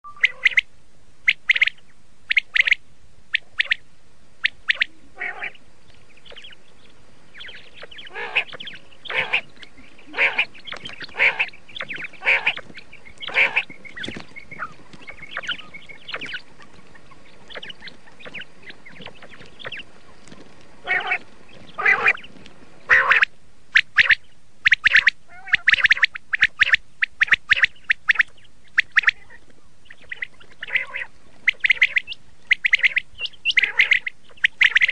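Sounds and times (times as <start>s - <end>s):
quail calling: 0.1s - 34.9s.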